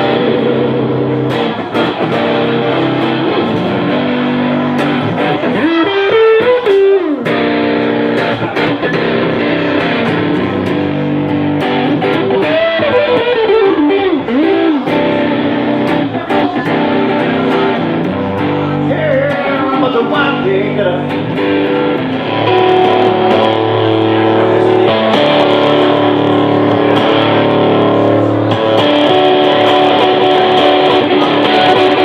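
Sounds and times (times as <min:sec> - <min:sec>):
electric guitar bending notes: 0:00.0 - 0:32.0
live rock band playing: 0:00.0 - 0:32.0.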